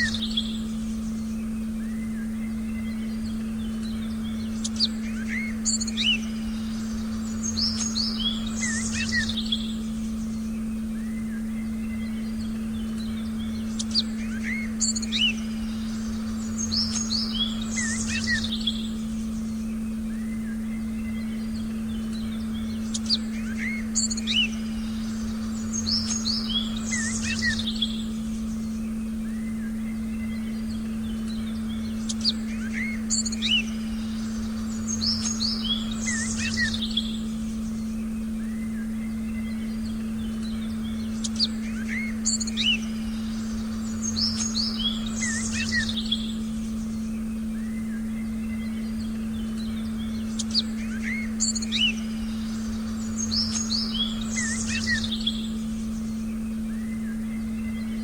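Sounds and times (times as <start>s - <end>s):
forest birds chirping: 0.0s - 58.0s
steady low tone: 0.0s - 58.0s.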